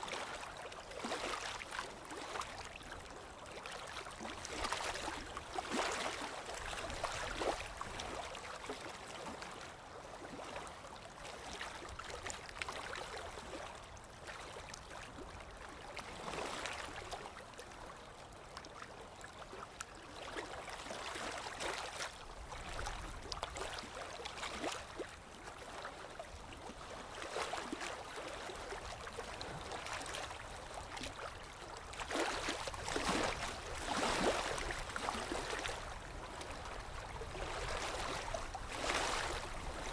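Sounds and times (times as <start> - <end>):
water lapping and splashing: 0.0 - 39.9.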